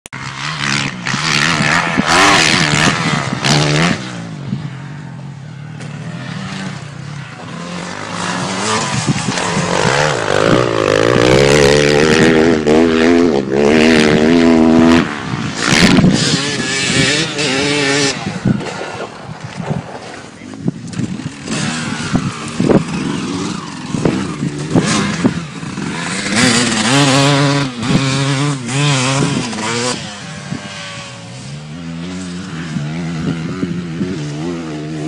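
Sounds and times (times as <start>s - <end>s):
motocross bike engine revving: 0.2s - 35.0s.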